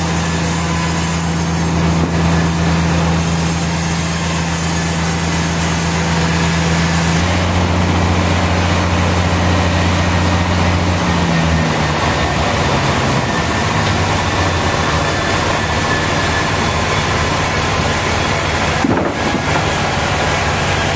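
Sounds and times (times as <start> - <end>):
sawmill machinery din: 0.0 - 20.9.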